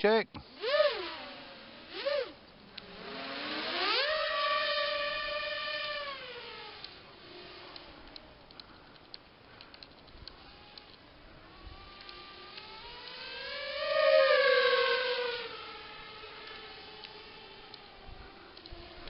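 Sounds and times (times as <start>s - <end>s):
drone motors whining: 0.4s - 19.0s.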